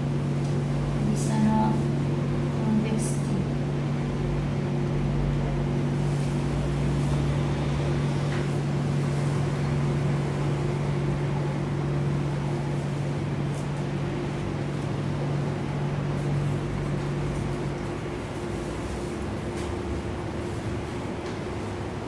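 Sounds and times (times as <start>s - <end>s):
machine humming and hissing: 0.0s - 22.0s.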